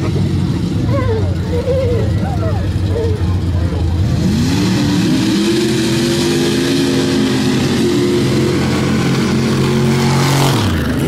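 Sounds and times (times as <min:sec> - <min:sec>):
truck engine accelerating hard: 0:00.0 - 0:11.0.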